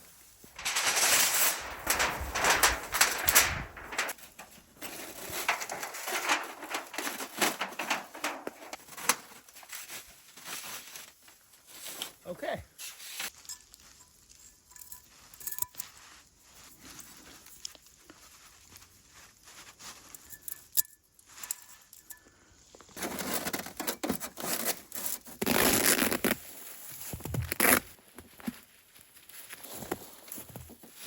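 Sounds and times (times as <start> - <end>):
camping gear rustling: 0.0 - 31.0.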